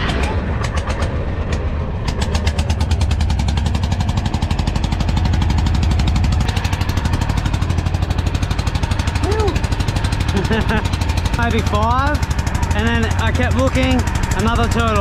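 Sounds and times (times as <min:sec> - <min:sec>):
boat engine chugging: 0:00.4 - 0:15.0.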